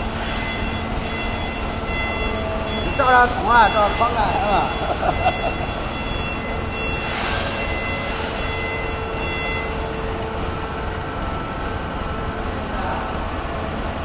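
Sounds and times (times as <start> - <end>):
machine droning: 0.0 - 14.0.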